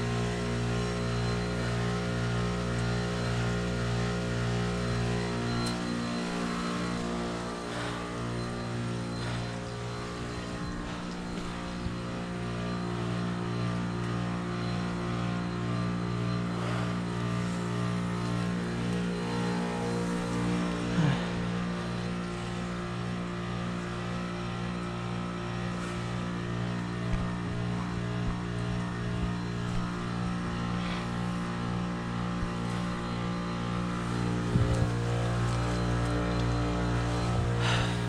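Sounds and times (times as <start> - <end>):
heat pump compressor hum: 0.0 - 38.0.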